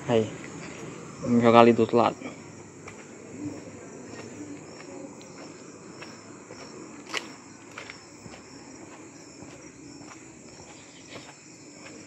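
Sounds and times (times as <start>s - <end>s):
night insects chirring: 0.0s - 12.0s
footsteps: 2.3s - 12.0s.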